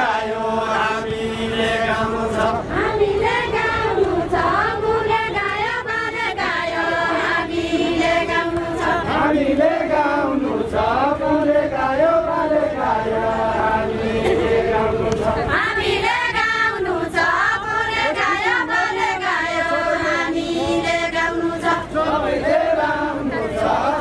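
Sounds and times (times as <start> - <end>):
group singing folk song: 0.0 - 24.0.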